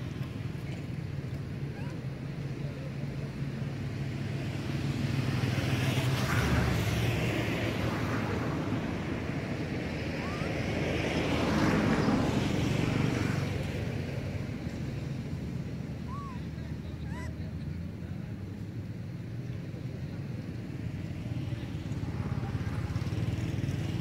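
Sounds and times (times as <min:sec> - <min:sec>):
low engine hum: 0:00.0 - 0:24.0
vehicles passing by: 0:00.0 - 0:24.0.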